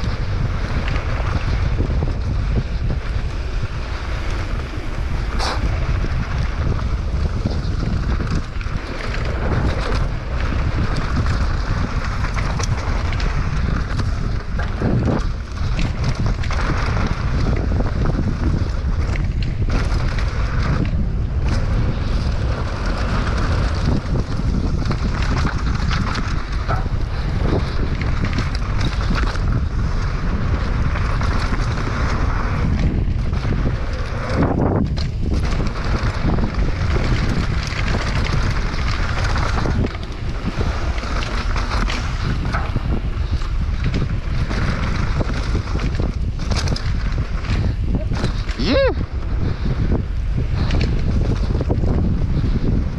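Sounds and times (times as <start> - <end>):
bike rattling and knocking: 0.0 - 52.9
knobby tyres rolling over dirt: 0.0 - 52.9
wind buffeting microphone: 0.0 - 52.9.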